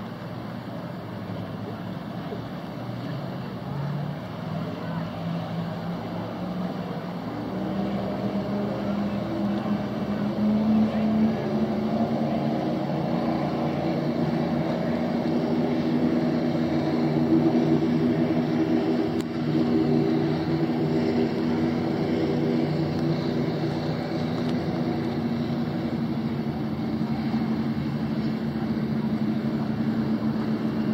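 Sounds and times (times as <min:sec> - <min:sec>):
boat engine humming: 0:00.0 - 0:30.9.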